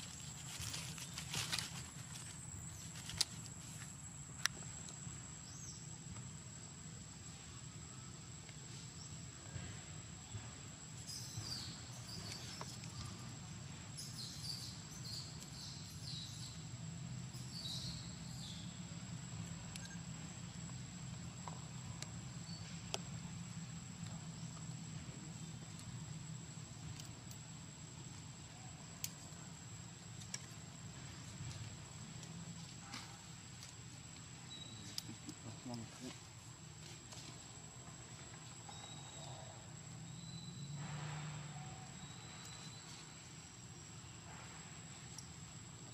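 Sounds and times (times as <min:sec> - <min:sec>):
insect high whine: 0:00.0 - 0:45.9.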